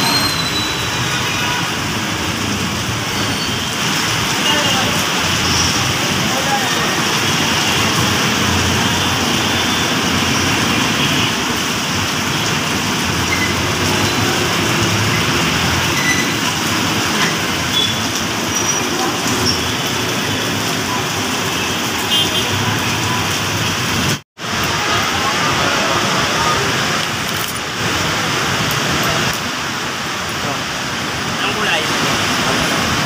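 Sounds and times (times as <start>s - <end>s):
busy road traffic: 0.0s - 33.0s
pouring rain: 0.0s - 33.0s.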